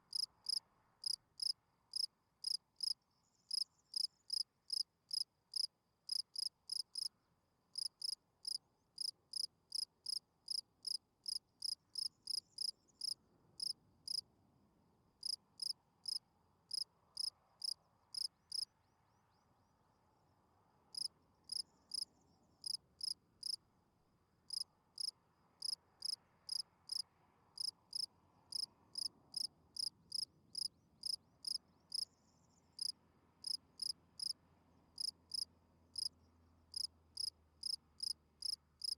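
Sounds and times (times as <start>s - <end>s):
cricket chirping: 0.1s - 7.1s, 7.8s - 14.2s, 15.2s - 18.7s, 20.9s - 23.6s, 24.5s - 27.0s, 27.6s - 34.4s, 35.0s - 38.9s.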